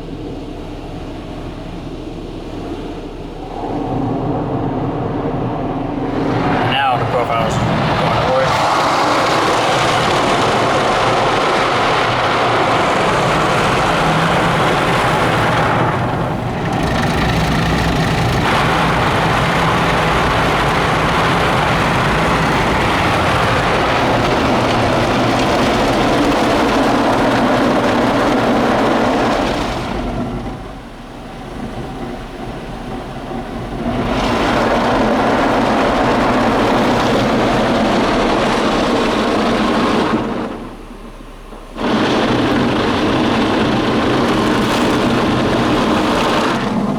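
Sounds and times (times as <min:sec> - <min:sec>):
water spraying: 0:03.4 - 0:46.9.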